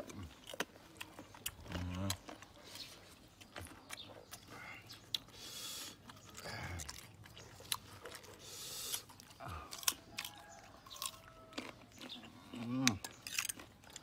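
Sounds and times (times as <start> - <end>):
crunchy fruit chewing: 0.0 - 14.0.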